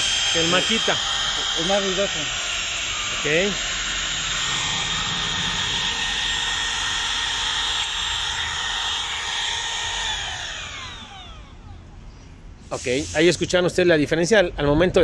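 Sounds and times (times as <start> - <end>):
motors spinning down: 0.0 - 12.0
routers whining: 0.0 - 12.5.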